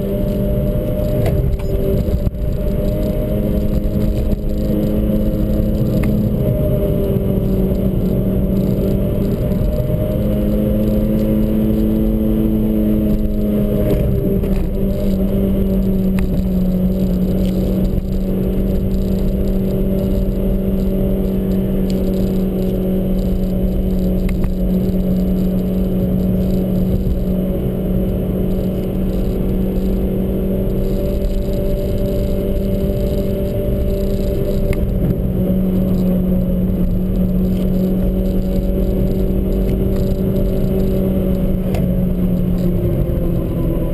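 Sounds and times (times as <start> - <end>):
car engine running: 0.0 - 43.9
road noise: 0.0 - 43.9.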